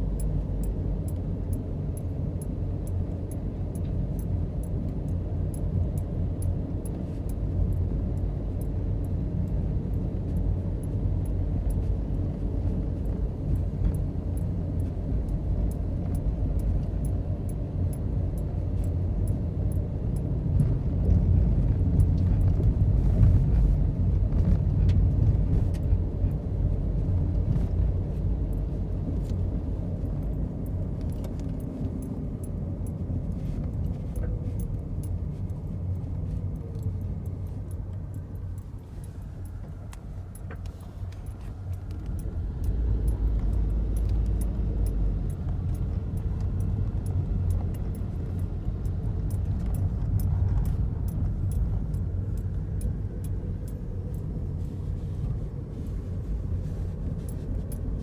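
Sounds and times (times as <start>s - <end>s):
car rumbling on the move: 0.0s - 58.0s.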